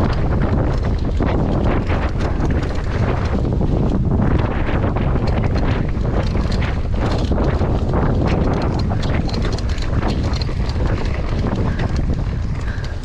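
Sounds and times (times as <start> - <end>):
bike clicks and rattles over bumps: 0.0 - 13.0
wind noise on microphone: 0.0 - 13.0.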